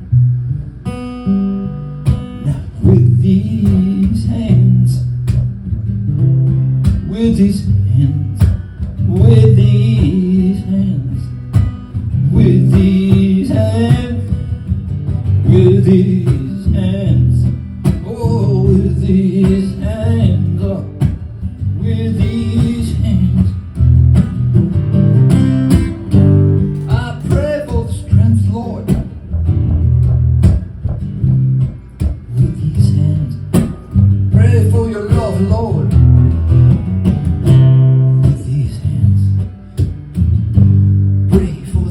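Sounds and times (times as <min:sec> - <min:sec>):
guitar playing slow song: 0:00.0 - 0:41.9
repeating bass line: 0:07.7 - 0:41.9.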